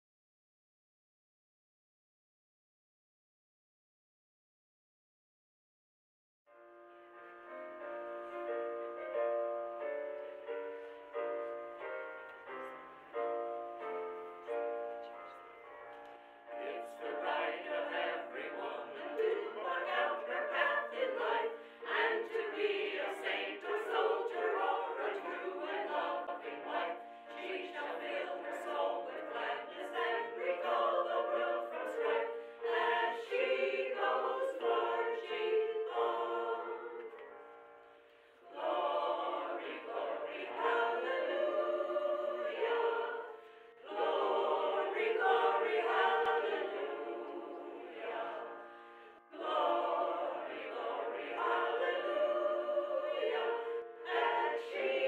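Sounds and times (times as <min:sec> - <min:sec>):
choir singing in harmony: 0:07.5 - 0:55.0.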